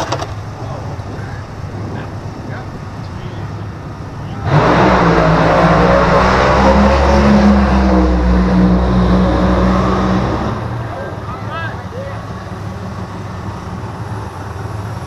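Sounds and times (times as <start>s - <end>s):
race car engine running loud: 0.0s - 15.0s.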